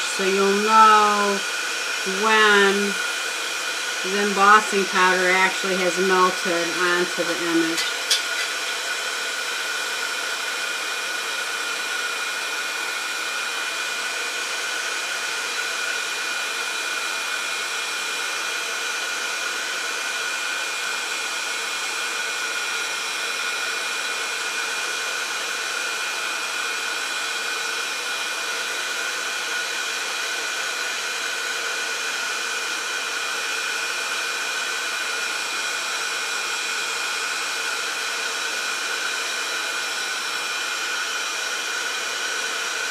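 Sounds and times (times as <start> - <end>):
heat gun blowing with whine: 0.0 - 42.9.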